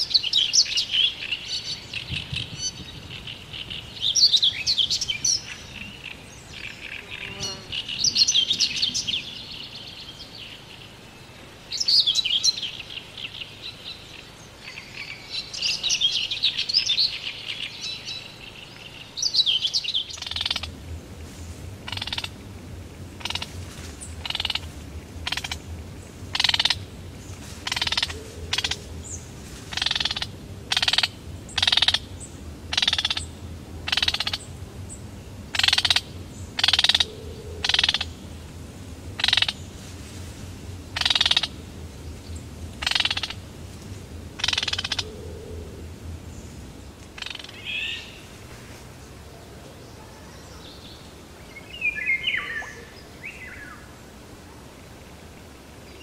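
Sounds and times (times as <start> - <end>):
frogs croaking: 0.0 - 39.8, 40.6 - 48.4
small birds chirping: 0.0 - 54.1
low steady hum: 0.0 - 56.0.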